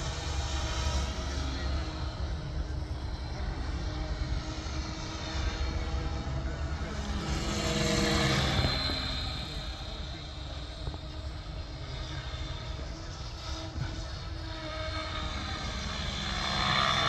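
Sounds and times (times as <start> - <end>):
rc helicopter motor whining: 0.0 - 17.0.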